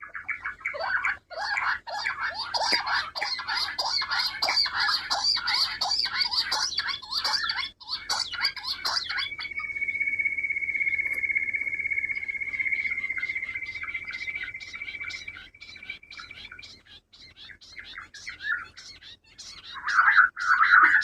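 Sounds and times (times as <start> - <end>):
quail pulsing trill: 0.0 - 21.0.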